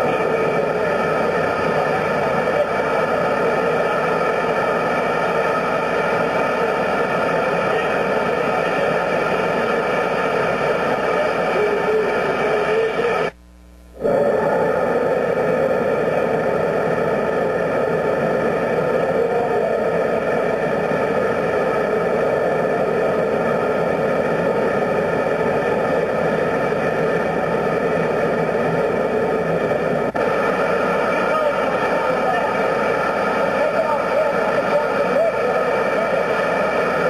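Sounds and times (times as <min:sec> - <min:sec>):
gas burner roaring: 0:00.0 - 0:37.0.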